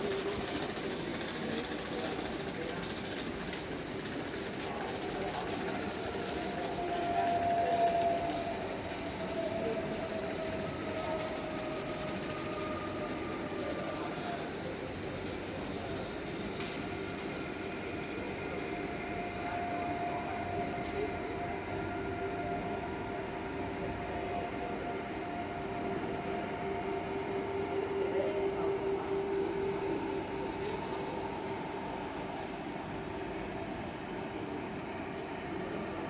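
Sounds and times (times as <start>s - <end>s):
electric train hum: 0.0s - 36.0s
thin high whine: 5.2s - 36.0s.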